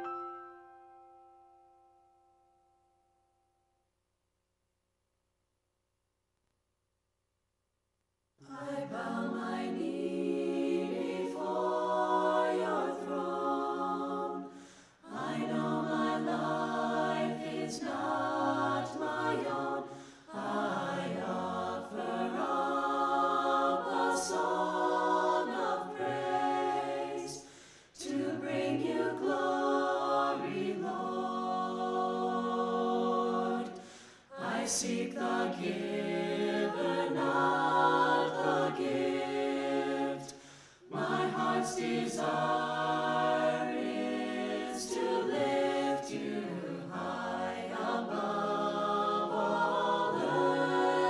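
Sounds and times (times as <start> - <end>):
choir singing a cappella: 8.4 - 51.0.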